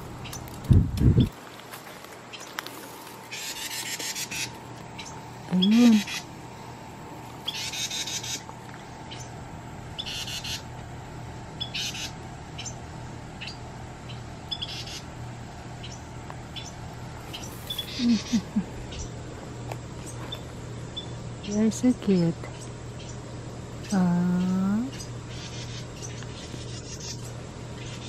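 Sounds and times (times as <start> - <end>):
wrens raspy chatter calls: 3.2 - 6.5, 7.4 - 10.8, 11.5 - 19.2, 20.0 - 28.0.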